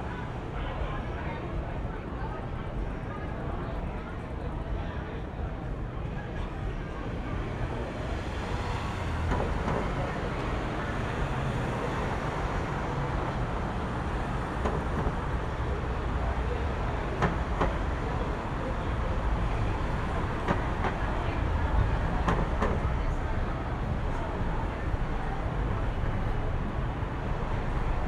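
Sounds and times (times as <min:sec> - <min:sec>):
traffic rumble: 0:04.6 - 0:28.0.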